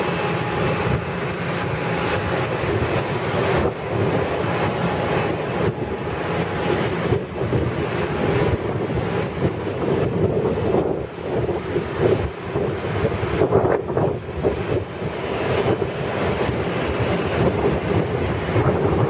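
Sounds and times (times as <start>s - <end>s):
rushing air: 0.0s - 19.0s
train wheels rumbling on rail: 0.0s - 19.0s
wind buffeting microphone: 0.0s - 19.0s.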